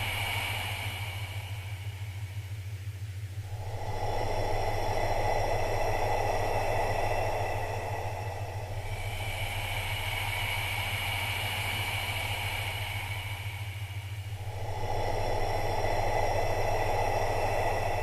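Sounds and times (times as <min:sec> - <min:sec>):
person breathing: 0:00.0 - 0:02.5, 0:03.4 - 0:18.0
steady low hum: 0:00.0 - 0:18.0.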